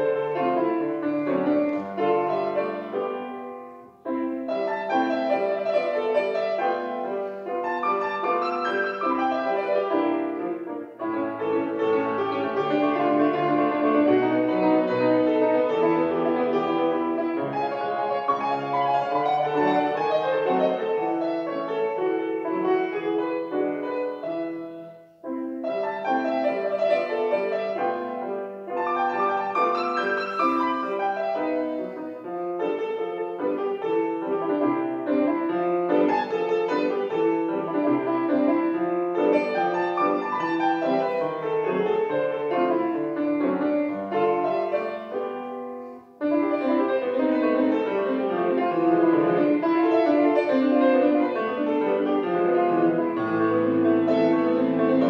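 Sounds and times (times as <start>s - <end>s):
solo piano classical piece: 0.0s - 55.0s.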